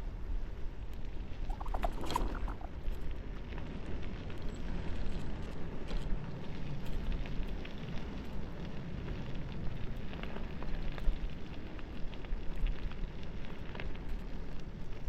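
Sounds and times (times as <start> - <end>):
bicycle tyres rolling on rough road: 0.0 - 15.0
grit crackling under wheels: 0.0 - 15.0
wind rumble on microphone: 0.0 - 15.0.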